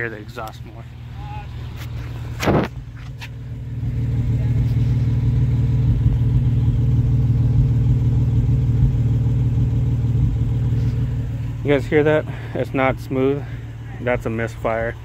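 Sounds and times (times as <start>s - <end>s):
engine idling roughly: 0.0s - 15.0s.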